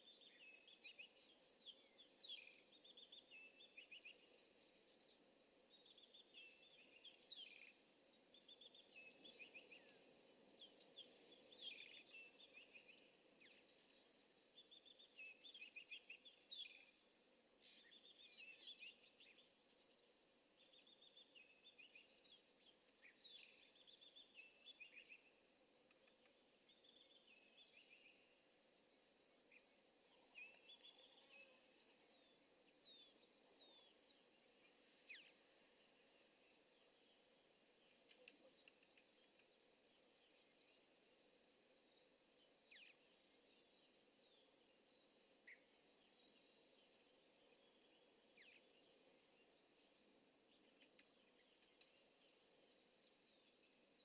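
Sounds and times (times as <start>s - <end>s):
faint background hiss: 0.0s - 54.0s.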